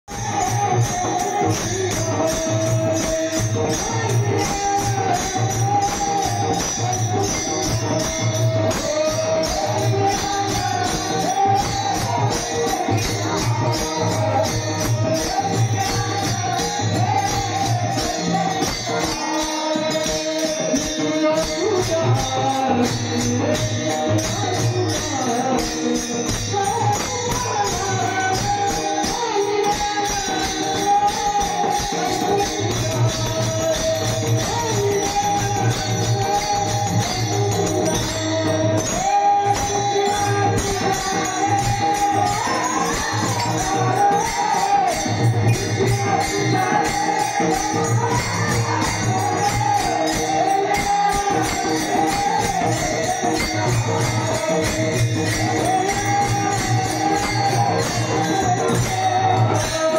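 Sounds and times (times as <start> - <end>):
jingling percussion beat: 0.0 - 59.9
person singing a wavering melody: 0.1 - 59.9.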